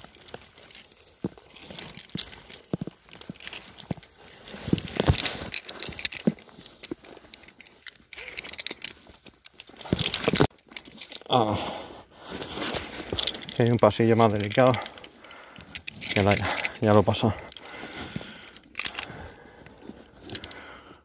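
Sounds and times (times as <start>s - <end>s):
climbing gear clicks and knocks: 0.0s - 21.0s.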